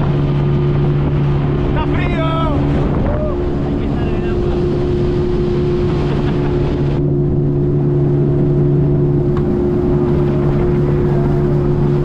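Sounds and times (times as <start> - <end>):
hull rushing through choppy water: 0.0 - 12.0
outboard motor droning: 0.0 - 12.0.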